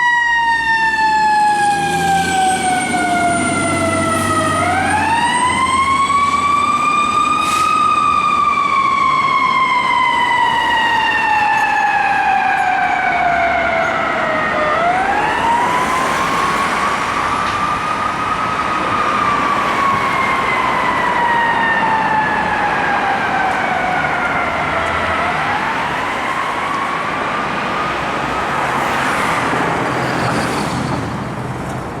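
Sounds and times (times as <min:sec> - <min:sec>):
fire truck siren wailing: 0:00.0 - 0:31.0.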